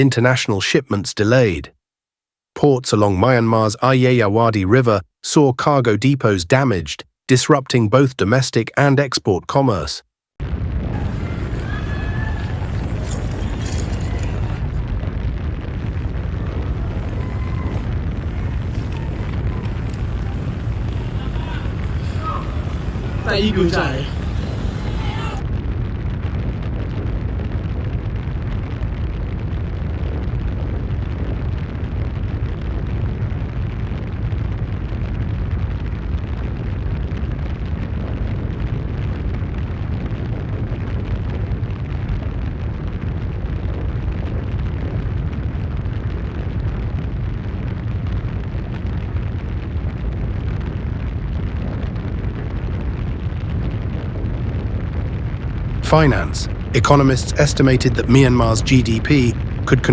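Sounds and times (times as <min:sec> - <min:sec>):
deep rumbling noise: 0:10.4 - 0:59.9.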